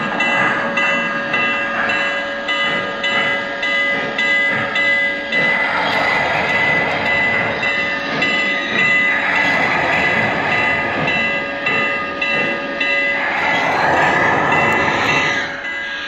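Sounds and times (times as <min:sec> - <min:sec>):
model train wheels rumbling on track: 0:00.0 - 0:16.0
steady high tones: 0:00.1 - 0:16.0.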